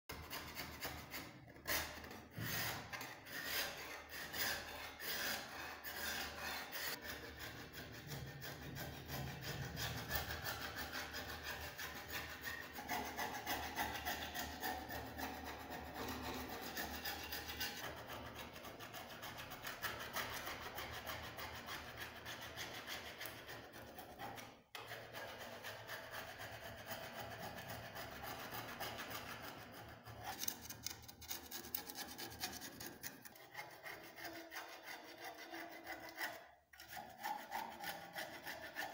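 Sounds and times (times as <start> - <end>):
file rasping against metal: 0.1 - 38.9.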